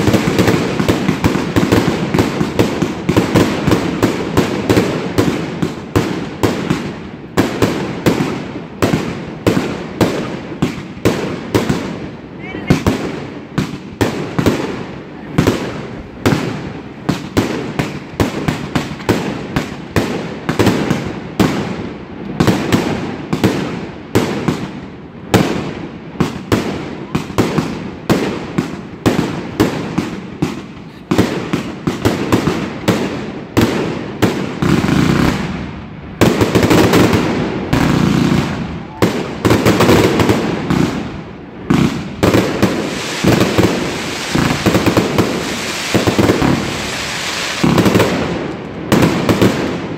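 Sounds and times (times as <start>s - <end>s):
fireworks cake shots and bursts: 0.0s - 49.9s.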